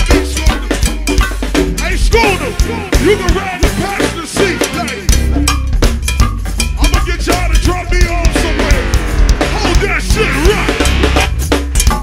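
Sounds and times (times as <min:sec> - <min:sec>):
cowbell: 0:00.0 - 0:08.8, 0:10.8 - 0:12.0
drum kit groove: 0:00.0 - 0:12.0
heavy bass line: 0:00.0 - 0:12.0.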